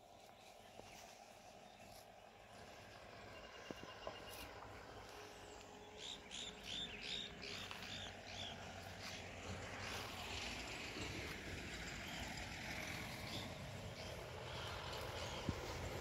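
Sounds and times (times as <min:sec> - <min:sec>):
faint open-air background noise: 0:00.0 - 0:16.0.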